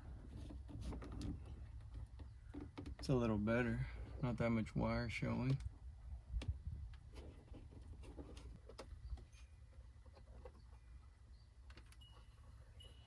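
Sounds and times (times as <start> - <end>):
clicks and rustles of handling: 0.0 - 3.8, 5.2 - 12.8.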